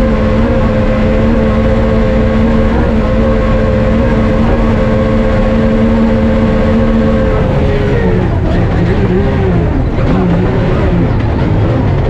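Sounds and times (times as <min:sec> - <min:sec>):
car engine at high revs: 0:00.0 - 0:12.0
road and tyre noise: 0:00.0 - 0:12.0.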